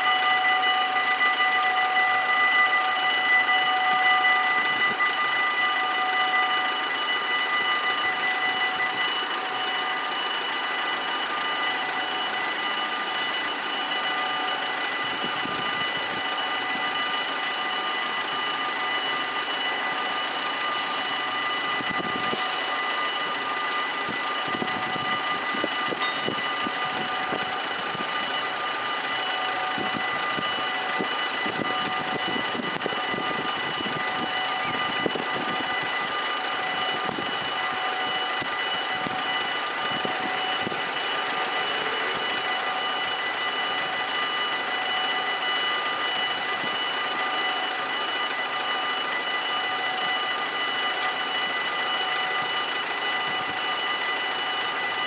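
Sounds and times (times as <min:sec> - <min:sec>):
level crossing warning bells: 0:00.0 - 0:55.0.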